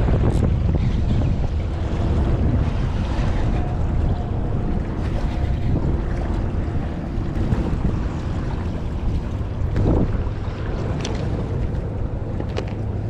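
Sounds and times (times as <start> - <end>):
choppy water: 0.0 - 13.0
wind rumbling on microphone: 0.0 - 13.0.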